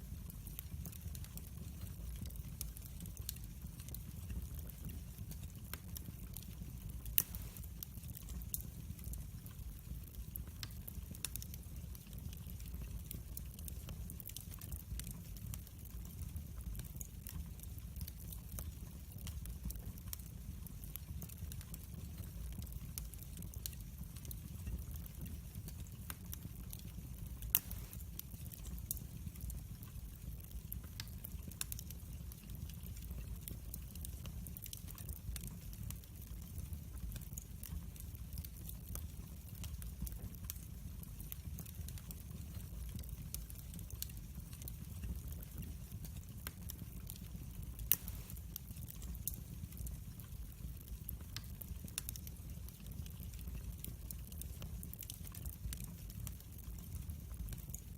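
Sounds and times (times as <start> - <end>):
fire rumbling: 0.0 - 57.7
fire crackling and popping: 0.0 - 57.9.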